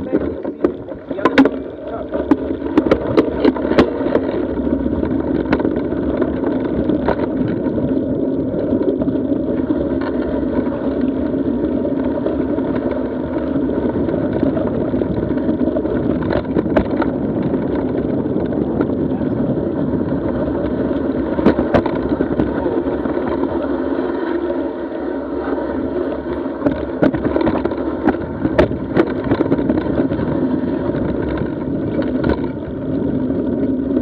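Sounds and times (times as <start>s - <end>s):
bike rattling over bumps: 0.0s - 34.0s
bike tyre rumbling on dirt: 0.0s - 34.0s.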